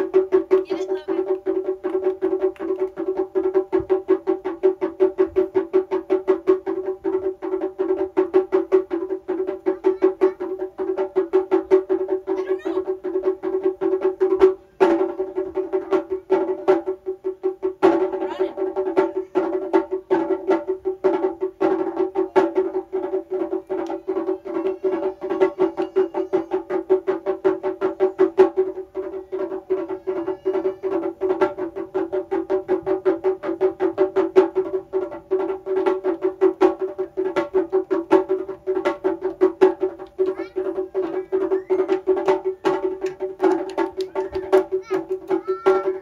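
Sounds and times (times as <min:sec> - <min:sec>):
taiko drums: 0:00.0 - 0:46.0.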